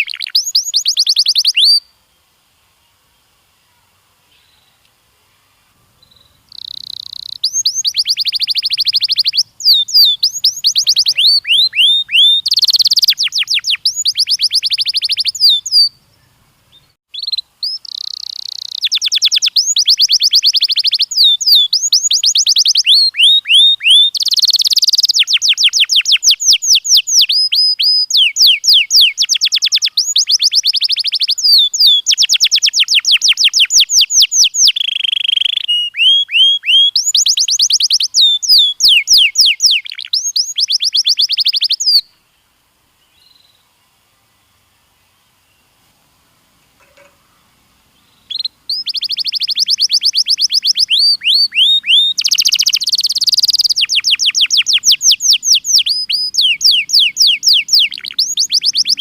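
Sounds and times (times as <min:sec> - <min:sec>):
canary singing trills: 0:00.0 - 0:01.9, 0:05.9 - 0:42.2, 0:46.8 - 0:59.0.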